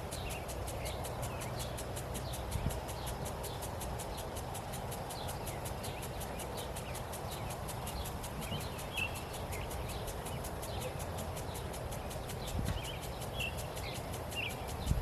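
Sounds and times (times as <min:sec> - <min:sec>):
insect chorus pulsing: 0:00.0 - 0:15.0
low background hiss: 0:00.0 - 0:15.0.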